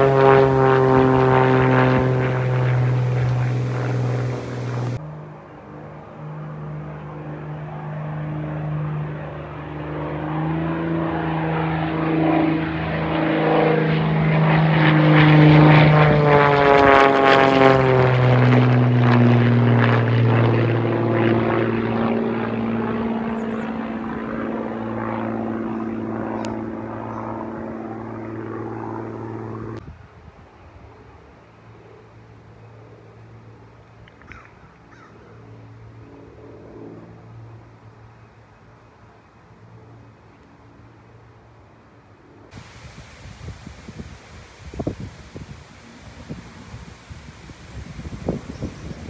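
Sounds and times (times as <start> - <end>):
propeller aircraft passing by: 0.0 - 49.0.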